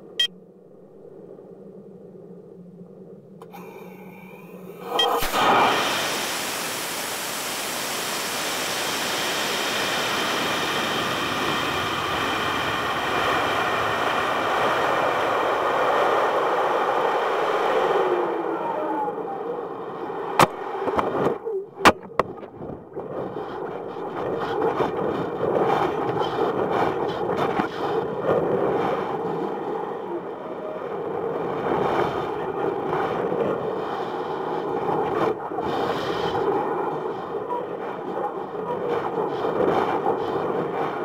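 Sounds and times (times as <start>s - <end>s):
rushing wind: 0.0s - 41.0s.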